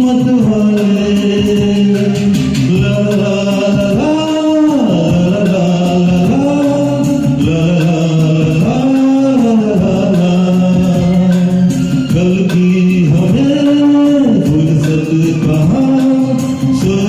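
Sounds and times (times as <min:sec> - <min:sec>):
film song backing music: 0:00.0 - 0:17.0.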